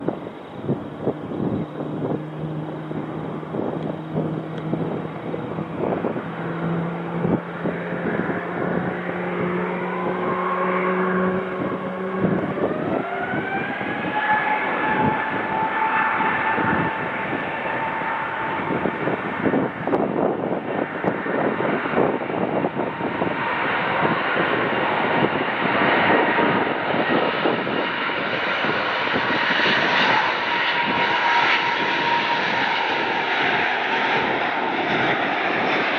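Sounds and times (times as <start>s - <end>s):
jet engines spooling up: 0.0s - 35.9s.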